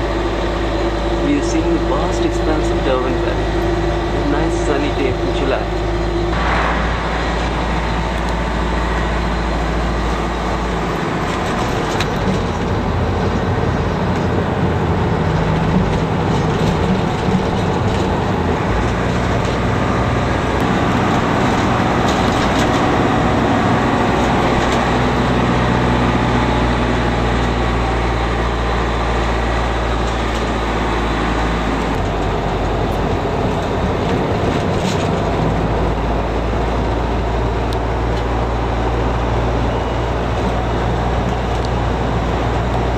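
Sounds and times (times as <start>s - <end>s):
bus engine drone: 0.0s - 42.9s.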